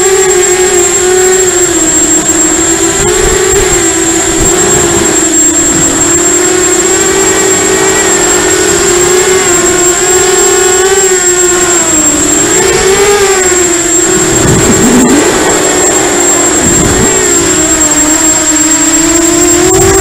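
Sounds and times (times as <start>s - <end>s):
drone motors buzzing whine: 0.0s - 20.0s
thin high whistle: 0.0s - 20.0s.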